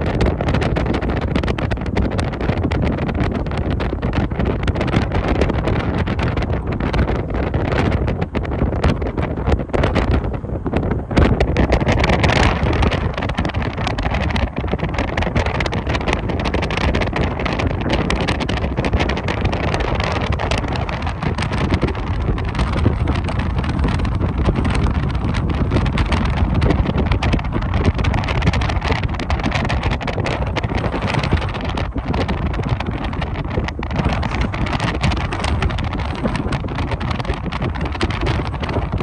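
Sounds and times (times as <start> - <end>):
vehicle rumble: 0.0 - 39.0
wind buffeting microphone: 0.0 - 39.0.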